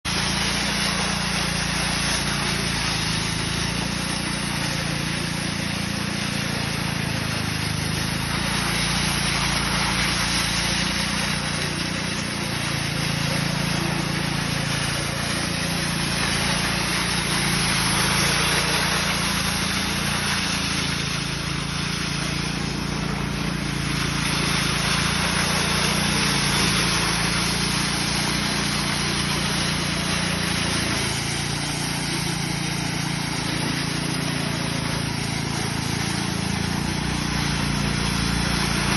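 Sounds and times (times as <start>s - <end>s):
construction machinery engine running: 0.1s - 38.9s.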